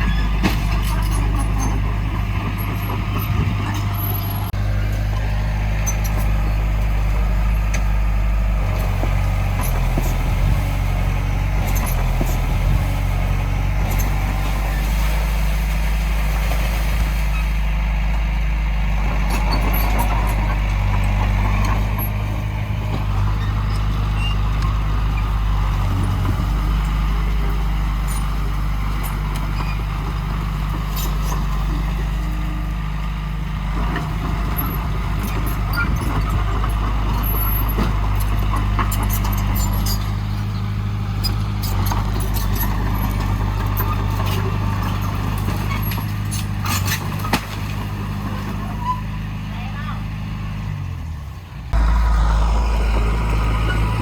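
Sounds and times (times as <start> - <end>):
heavy diesel machinery droning: 0.0 - 54.0.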